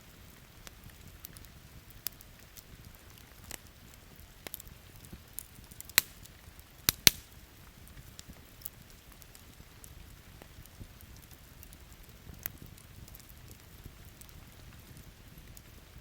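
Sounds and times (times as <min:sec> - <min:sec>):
campfire crackling and popping: 0:00.0 - 0:16.0
rain: 0:00.0 - 0:16.0.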